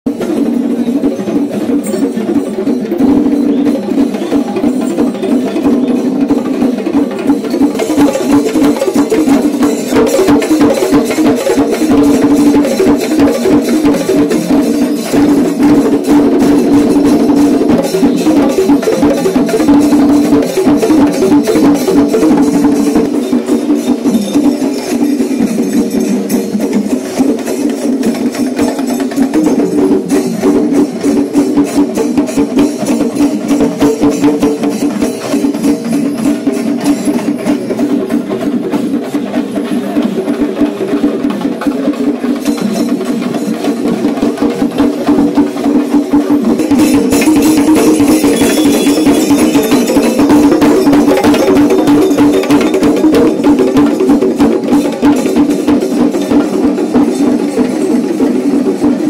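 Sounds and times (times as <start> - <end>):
rapid drum strokes: 0.1 - 59.0.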